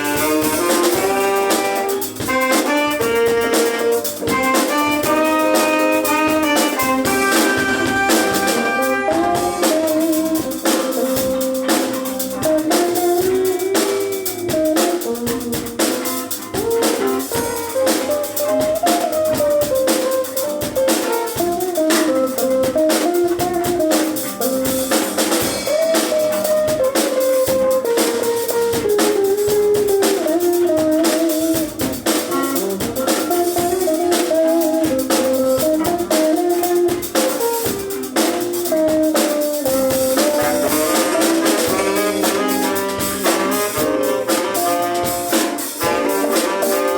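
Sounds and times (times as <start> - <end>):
drums beating: 0.0 - 46.9
instrumental melody: 0.0 - 46.9.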